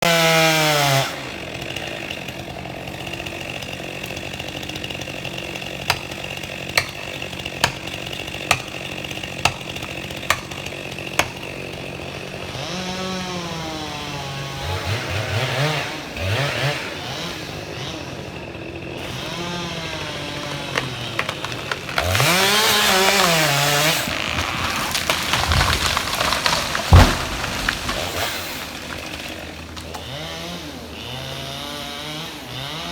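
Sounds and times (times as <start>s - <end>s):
chainsaw revving: 0.0s - 32.9s.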